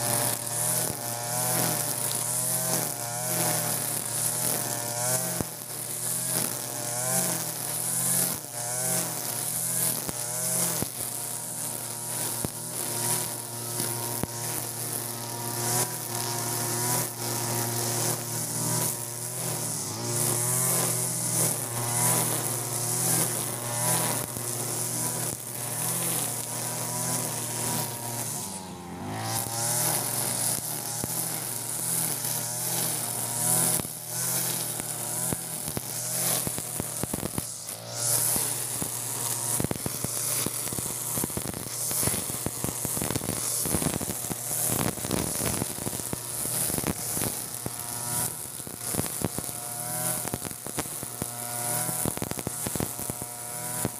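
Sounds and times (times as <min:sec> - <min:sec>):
brush cutter running at high revs: 0:00.0 - 0:53.9
trimmer line hissing through grass: 0:00.0 - 0:53.9.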